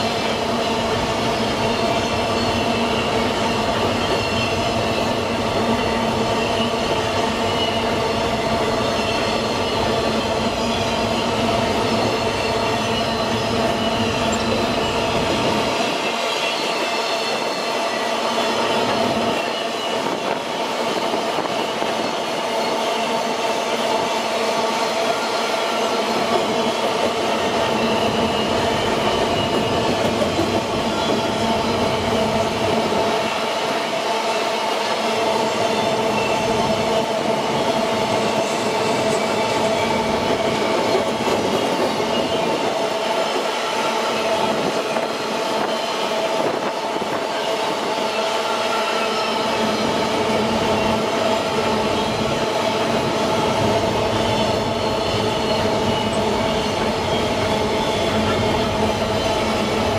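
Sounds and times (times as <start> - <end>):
steel wheels clattering on rails: 0.0 - 59.9.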